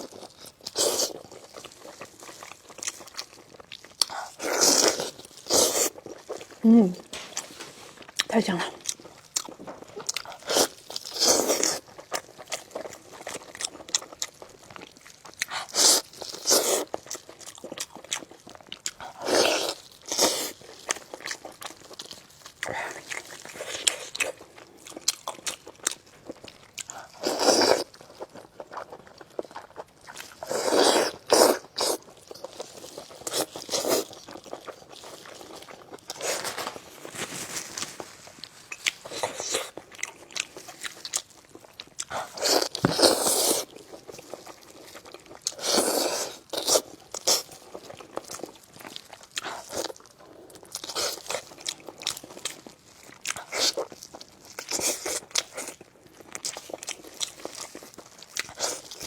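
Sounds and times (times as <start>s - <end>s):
chewing and crunching bites: 0.0s - 59.0s.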